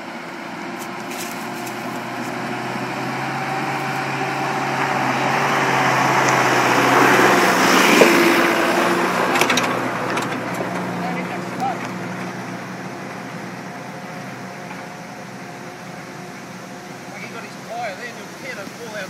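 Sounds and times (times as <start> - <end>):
fire truck engine passing by: 0.0 - 19.0.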